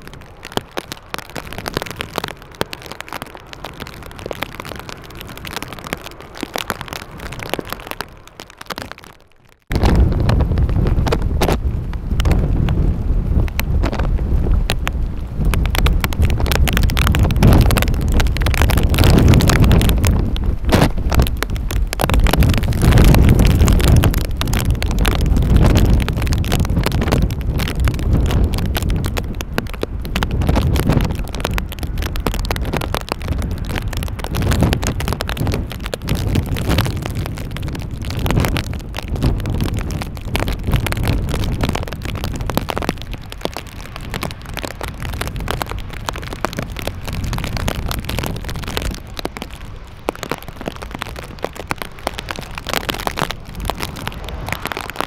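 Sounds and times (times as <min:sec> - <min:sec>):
gusty wind buffeting microphone: 0:00.0 - 0:55.0.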